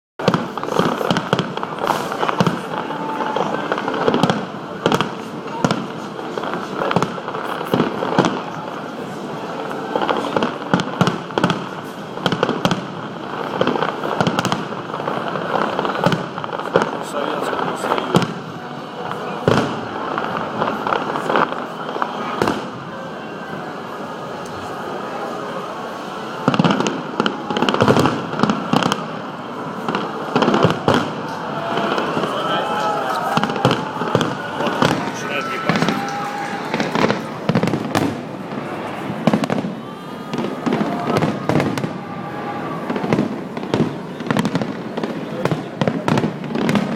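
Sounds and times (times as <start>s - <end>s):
fireworks bangs and pops: 0.2s - 46.9s
fireworks crackling: 0.2s - 46.9s.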